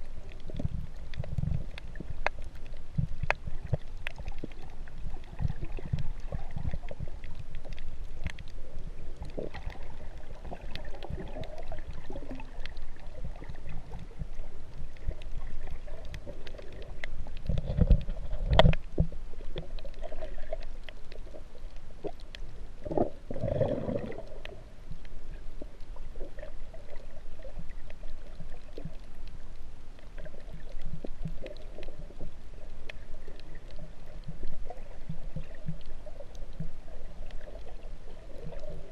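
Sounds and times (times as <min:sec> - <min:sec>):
faint underwater clicks: 0:00.0 - 0:38.9
underwater rumble of moving water: 0:00.0 - 0:38.9.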